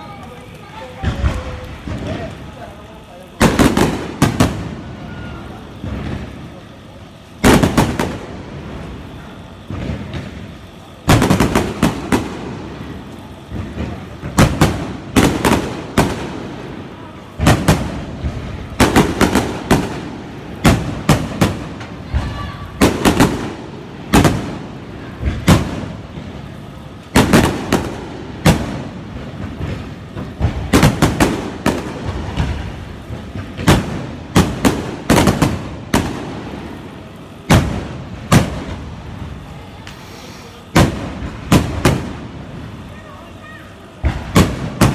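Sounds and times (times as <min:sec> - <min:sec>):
fireworks shells bursting: 0:00.0 - 0:44.9.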